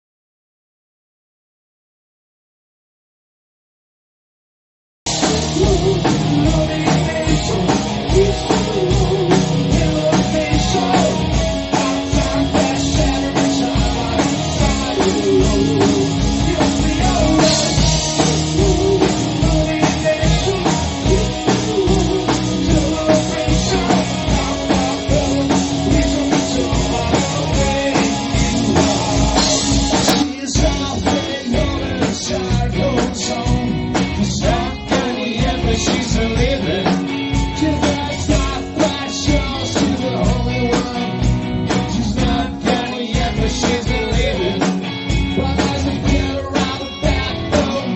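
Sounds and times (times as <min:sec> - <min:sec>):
drum kit beat: 0:05.1 - 0:47.9
electric guitars: 0:05.1 - 0:47.9
rock band playing: 0:05.1 - 0:47.9.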